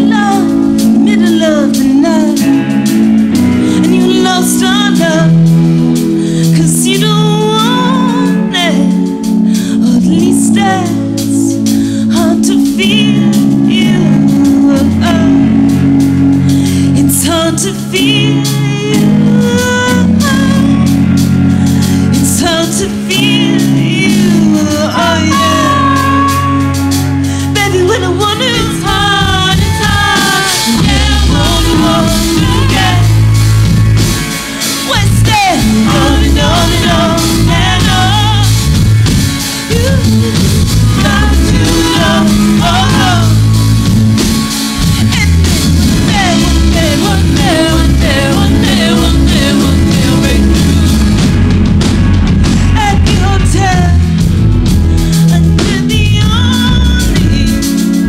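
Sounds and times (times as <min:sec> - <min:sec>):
women singing: 0:00.0 - 0:05.4, 0:06.5 - 0:09.0, 0:09.7 - 0:15.8, 0:16.9 - 0:21.0, 0:22.0 - 0:33.4, 0:34.7 - 0:38.8, 0:39.6 - 0:44.0, 0:45.0 - 0:51.4, 0:52.7 - 0:54.1, 0:55.3 - 0:57.9
electric guitar: 0:00.0 - 0:58.0
live rock band: 0:00.0 - 0:58.0.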